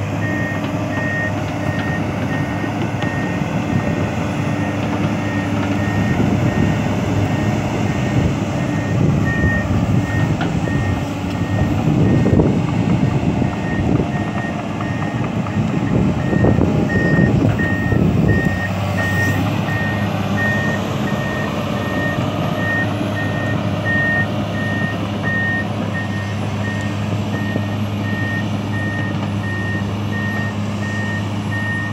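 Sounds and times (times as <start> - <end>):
heavy diesel machinery running: 0.0 - 31.9
reversing alarm beeping: 0.2 - 12.4, 13.4 - 31.9.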